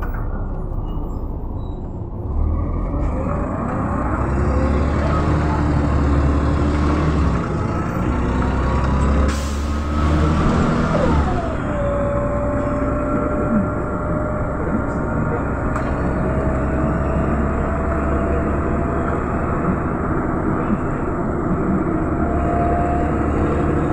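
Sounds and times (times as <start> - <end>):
bus diesel engine accelerating: 0.0 - 23.9.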